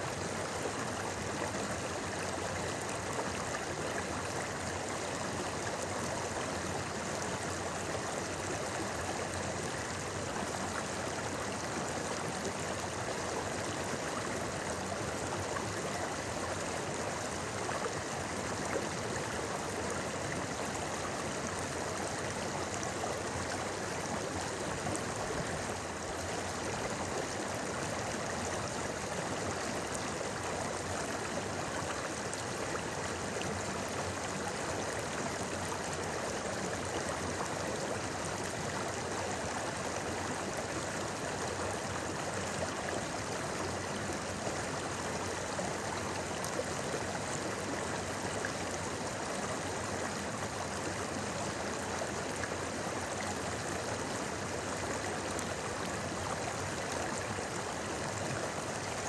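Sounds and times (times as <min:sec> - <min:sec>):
river babbling over stones: 0:00.0 - 0:59.0.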